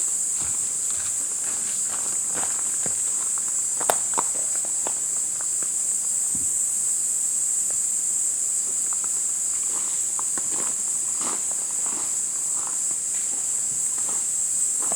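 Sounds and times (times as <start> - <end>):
insects chorus: 0.0 - 14.9.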